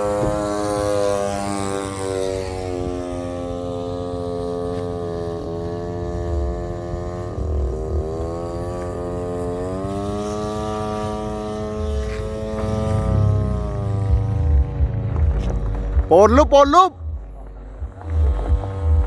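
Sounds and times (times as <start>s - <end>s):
two-stroke engine buzzing: 0.0s - 19.0s
wind rumbling on microphone: 0.0s - 19.0s.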